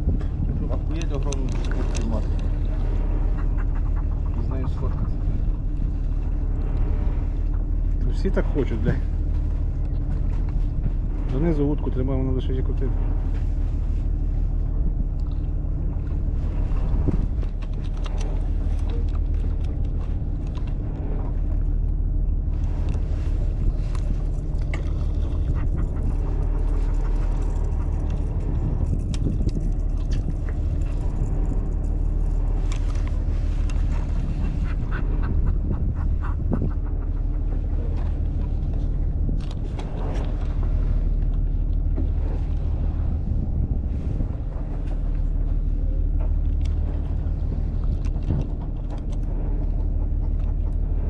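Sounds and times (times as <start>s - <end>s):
boat engine droning: 0.0s - 51.0s.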